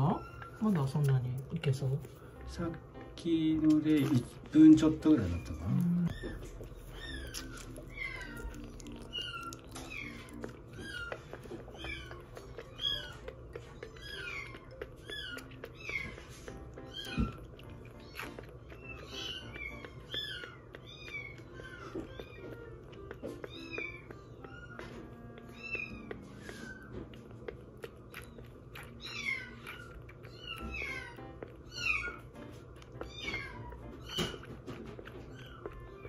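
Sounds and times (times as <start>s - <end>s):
kittens mewing: 5.0s - 36.0s.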